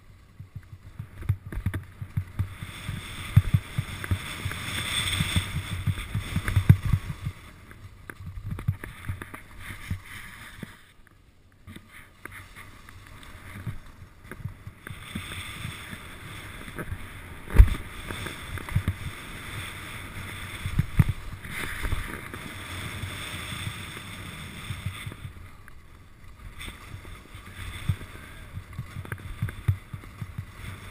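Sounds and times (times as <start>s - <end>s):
skis scraping over snow: 0.0s - 11.0s, 11.7s - 30.9s
skis knocking over moguls: 0.4s - 10.8s, 11.8s - 30.9s.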